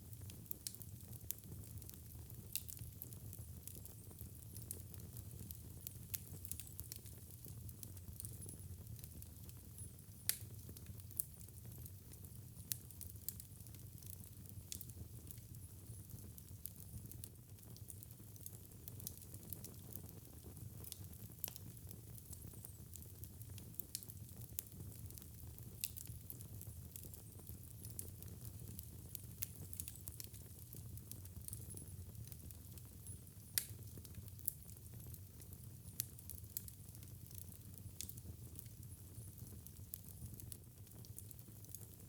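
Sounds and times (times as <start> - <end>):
fireplace fire crackling: 0.0 - 42.0
low fire rumble: 0.0 - 42.0.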